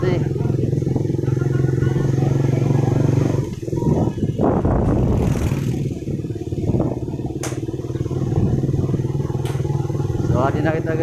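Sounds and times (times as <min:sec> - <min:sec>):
road noise: 0:00.0 - 0:11.0
small motorcycle engine running: 0:00.0 - 0:11.0.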